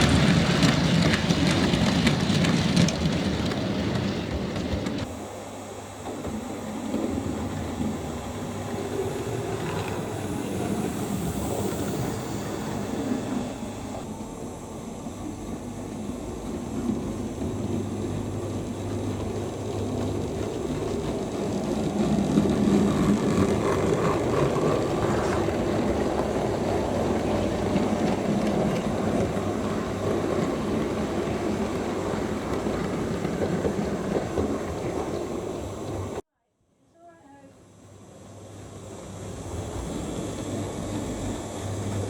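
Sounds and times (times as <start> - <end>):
model train rumbling: 0.0 - 36.2, 37.8 - 42.0.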